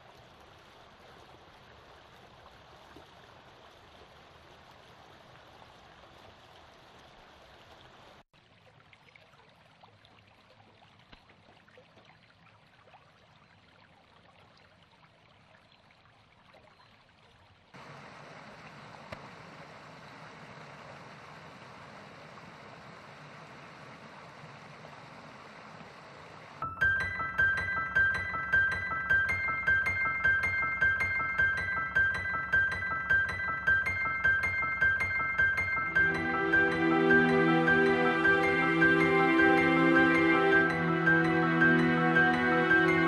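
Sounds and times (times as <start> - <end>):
stream running water: 0.0 - 43.0.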